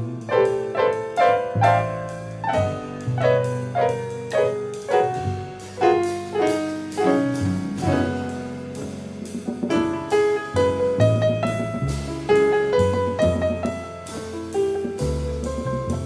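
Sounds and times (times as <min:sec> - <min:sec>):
piano playing jazz chords: 0:00.0 - 0:16.0.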